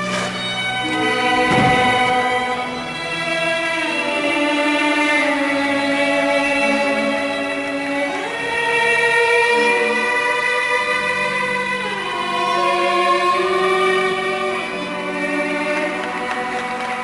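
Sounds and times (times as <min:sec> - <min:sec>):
slow orchestral music with choir: 0:00.0 - 0:17.0.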